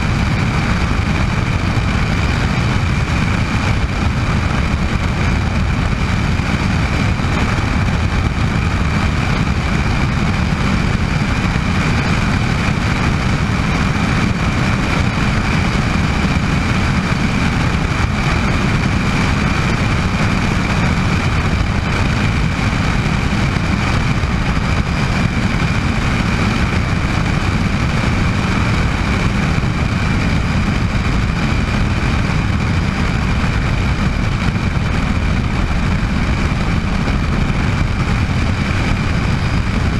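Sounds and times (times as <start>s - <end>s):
helicopter engine and rotors: 0.0s - 39.9s
high-pitched turbine whine: 0.0s - 39.9s.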